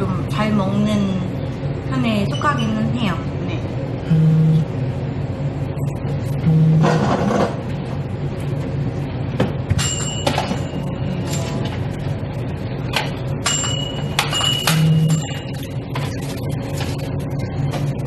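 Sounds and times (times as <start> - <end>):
store background hum: 0.0 - 18.0.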